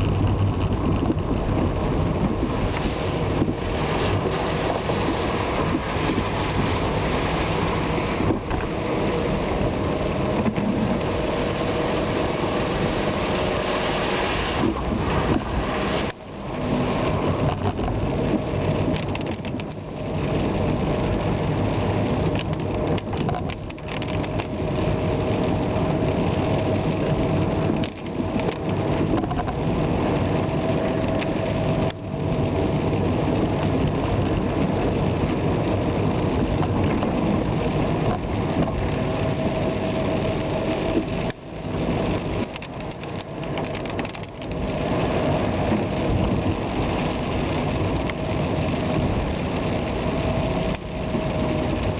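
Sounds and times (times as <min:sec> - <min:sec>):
tyres on wet road: 0:00.0 - 0:51.9
vehicle engine hum: 0:00.0 - 0:51.9.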